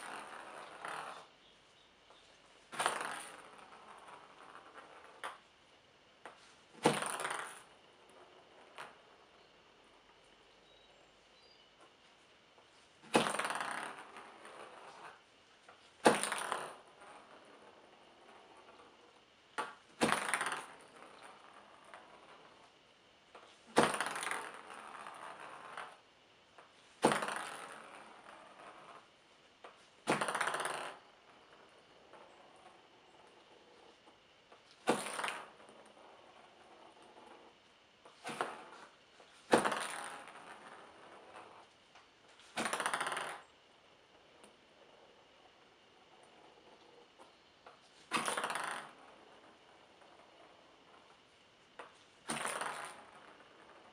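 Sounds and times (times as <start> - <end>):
object spinning on hard surface: 0.0 - 1.3, 2.6 - 5.4, 6.2 - 10.3, 12.7 - 26.0, 26.9 - 29.1, 29.7 - 53.9
ball knocking and rolling on wood: 0.0 - 5.5, 6.2 - 10.9, 11.7 - 53.9.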